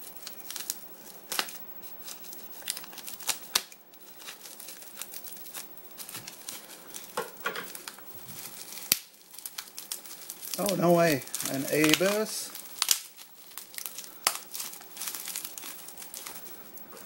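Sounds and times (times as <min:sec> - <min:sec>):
packing tape tearing: 0:00.0 - 0:16.6
bubble wrap crinkling: 0:00.0 - 0:17.0.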